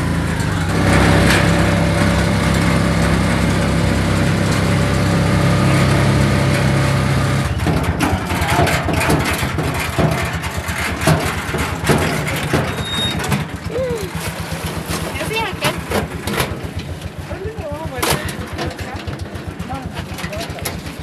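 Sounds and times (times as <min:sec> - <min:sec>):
engine knocks: 0:00.0 - 0:21.0
vehicle engine running: 0:00.0 - 0:21.0.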